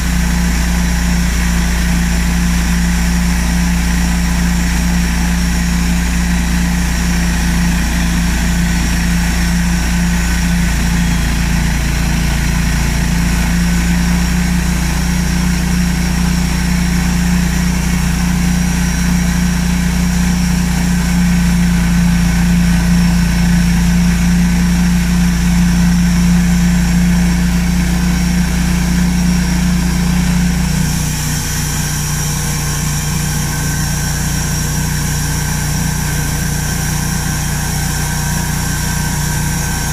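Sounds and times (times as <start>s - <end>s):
sawmill mechanical drone: 0.0s - 39.9s.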